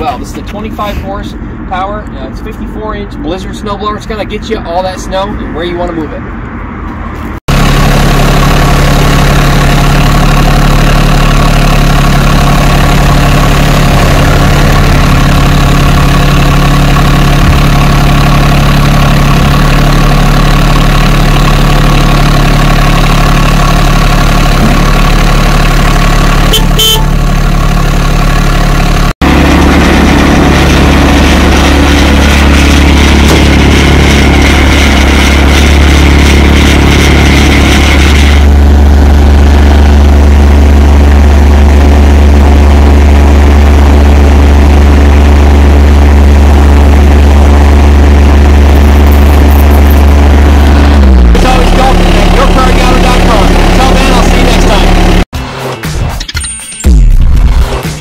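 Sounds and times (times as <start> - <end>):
tractor diesel engine running: 0.0 - 55.3.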